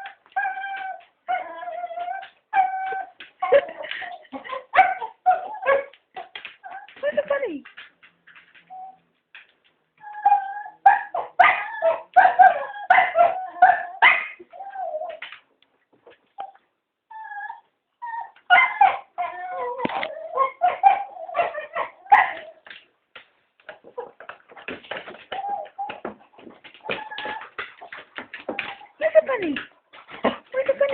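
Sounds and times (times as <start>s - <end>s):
dogs whining and barking: 0.0s - 7.0s, 8.4s - 9.2s, 10.0s - 15.4s, 16.0s - 22.8s, 23.7s - 29.4s.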